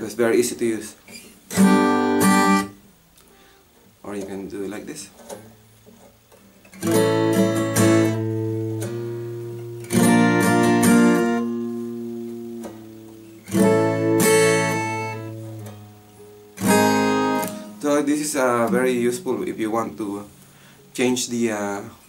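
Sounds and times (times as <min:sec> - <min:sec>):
acoustic guitar chords strummed: 0:01.5 - 0:04.5, 0:05.2 - 0:22.0.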